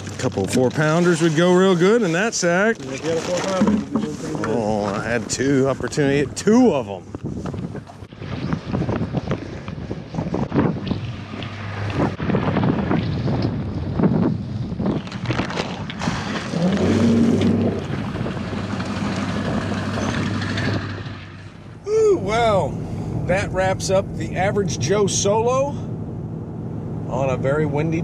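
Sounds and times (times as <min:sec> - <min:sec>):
outboard motors humming: 0:00.0 - 0:12.2, 0:15.8 - 0:28.0
wind buffeting microphone: 0:02.6 - 0:28.0.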